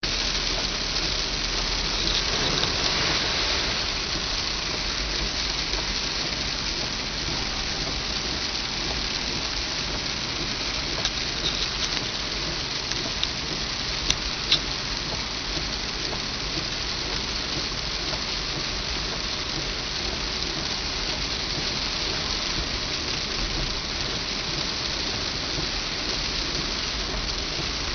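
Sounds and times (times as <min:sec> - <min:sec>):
heavy rain: 0:00.0 - 0:27.9.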